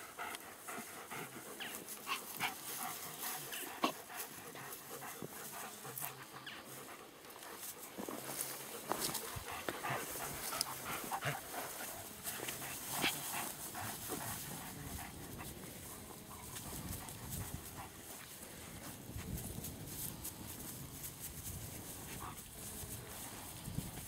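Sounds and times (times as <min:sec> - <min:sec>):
dog panting: 0:00.0 - 0:19.6, 0:20.3 - 0:23.6.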